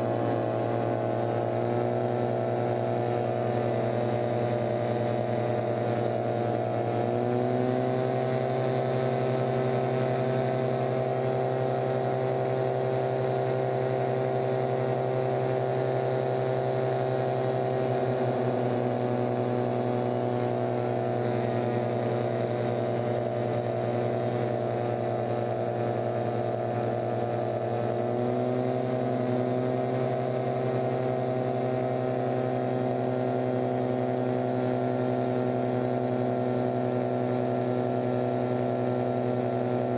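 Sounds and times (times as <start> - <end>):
paratrike engine and propeller: 0.0 - 39.9.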